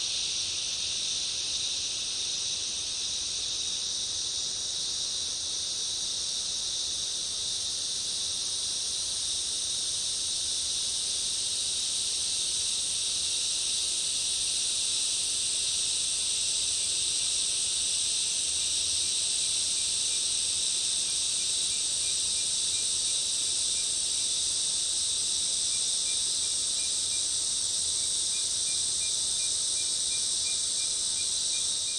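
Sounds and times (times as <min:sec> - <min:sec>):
fast ticking insect call: 0:00.0 - 0:31.9
high-pitched insect drone: 0:00.0 - 0:31.9.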